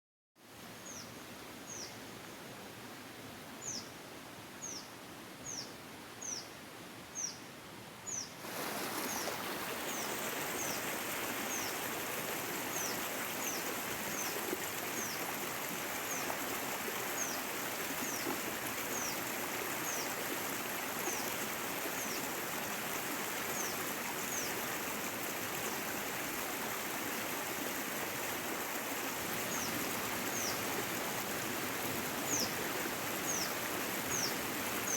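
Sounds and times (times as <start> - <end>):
stream water rushing: 0.5 - 34.9.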